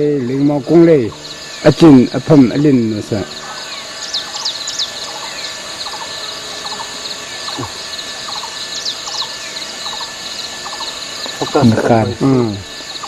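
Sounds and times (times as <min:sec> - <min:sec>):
birds chirping: 0:00.0 - 0:13.0
high insect drone: 0:00.0 - 0:13.0.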